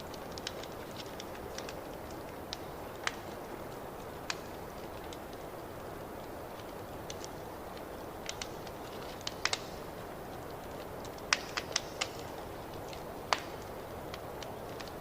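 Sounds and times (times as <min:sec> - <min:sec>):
wood fire crackling in a fireplace: 0:00.0 - 0:15.0.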